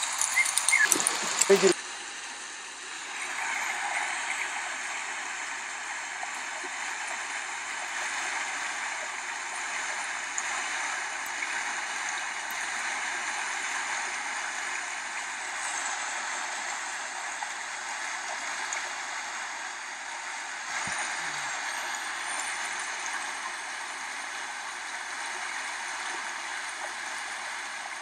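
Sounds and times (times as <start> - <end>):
creek flowing over stones: 0.0 - 1.9, 3.0 - 28.0.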